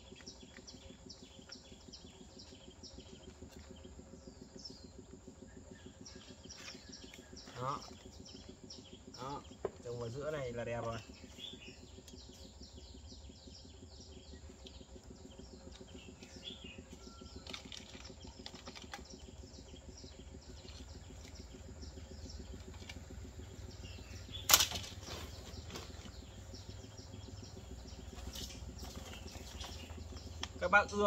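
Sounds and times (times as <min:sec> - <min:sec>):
low steady hum: 0:00.0 - 0:31.0
small birds chirping: 0:00.0 - 0:31.0.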